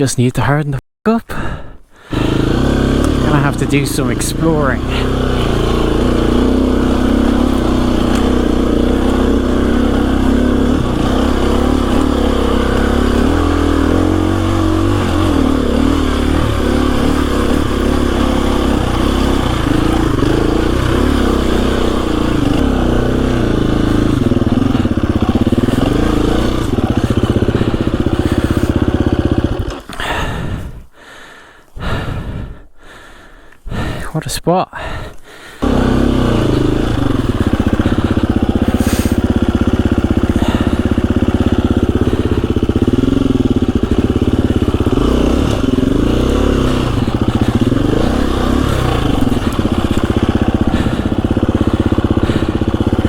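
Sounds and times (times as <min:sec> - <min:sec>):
dirt bike engine revving: 0:02.0 - 0:30.8, 0:34.8 - 0:53.0.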